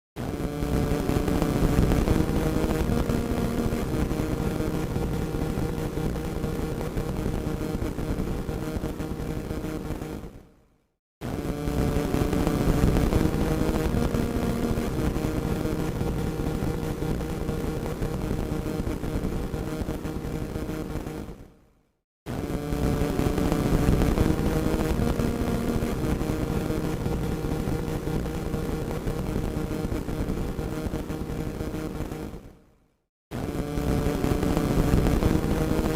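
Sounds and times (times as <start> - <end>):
radio static hiss with crackles: 0.2 - 10.4, 11.3 - 21.4, 22.3 - 32.5, 33.4 - 35.9.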